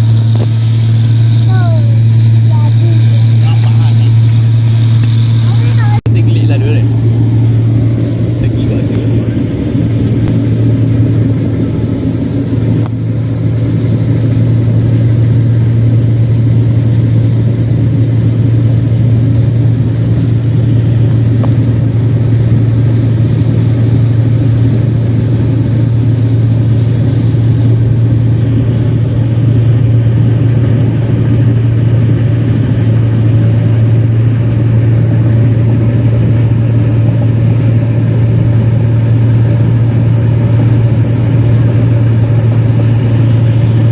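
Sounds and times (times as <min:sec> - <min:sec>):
combine harvester engine running: 0:00.0 - 0:43.9.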